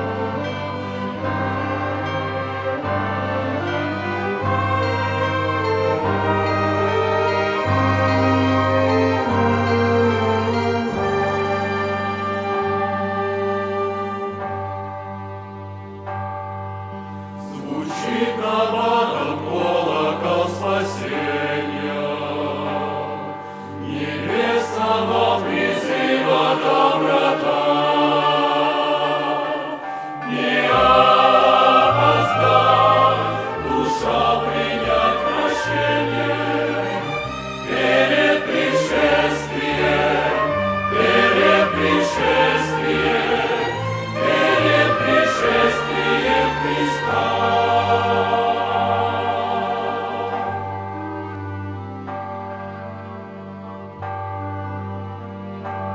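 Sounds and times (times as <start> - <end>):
chamber orchestra: 0.0 - 55.9
church choir singing: 0.0 - 55.9.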